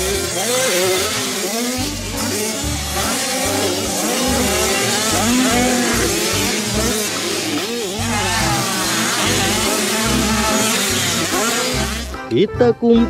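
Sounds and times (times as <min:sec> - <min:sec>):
dirt bike engines revving: 0:00.0 - 0:12.4.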